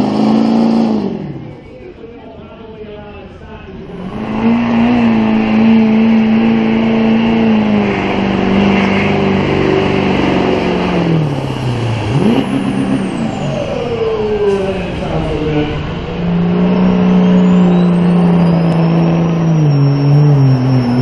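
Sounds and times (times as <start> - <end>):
diesel truck engine at full throttle: 0.0 - 21.0.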